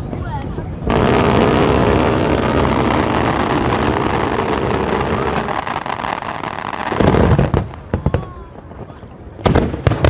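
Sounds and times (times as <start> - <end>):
continuous fireworks noise: 0.0 - 10.0.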